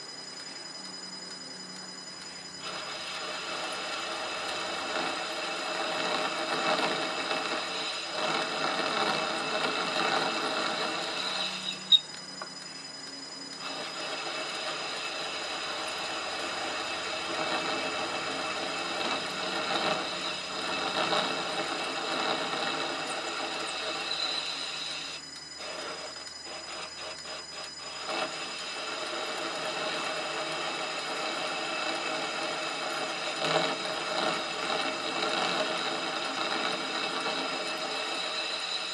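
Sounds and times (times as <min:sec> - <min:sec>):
metal lathe whining: 0:00.0 - 0:38.9
tool cutting metal: 0:02.6 - 0:12.5, 0:13.6 - 0:38.9.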